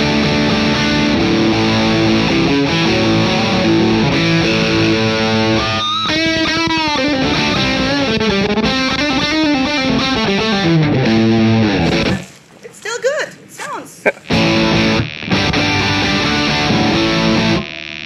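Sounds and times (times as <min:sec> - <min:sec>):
distorted electric guitar: 0:00.0 - 0:12.2, 0:14.1 - 0:18.0.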